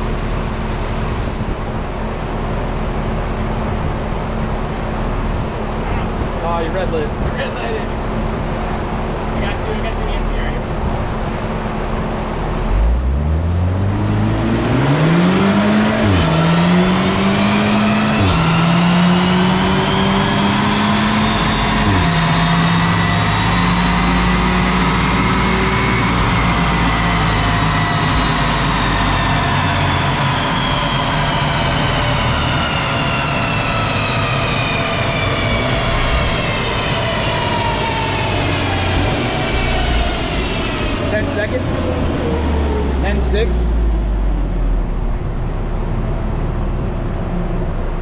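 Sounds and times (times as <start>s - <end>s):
car engine accelerating: 0.0s - 48.0s
dyno rollers whining: 0.0s - 48.0s.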